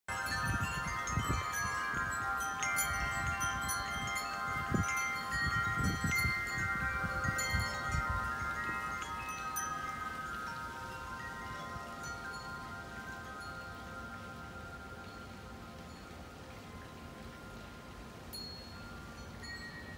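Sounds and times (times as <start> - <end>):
tubular wind chimes ringing: 0.1 - 19.9.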